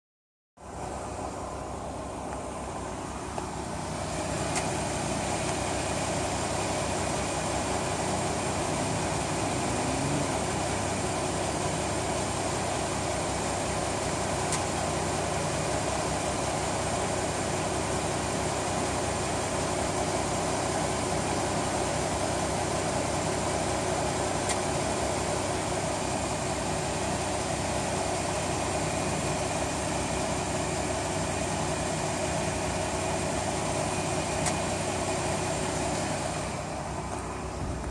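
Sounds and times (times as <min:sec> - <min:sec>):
car engine idling: 0:00.6 - 0:37.9
engine ticking: 0:00.6 - 0:37.9.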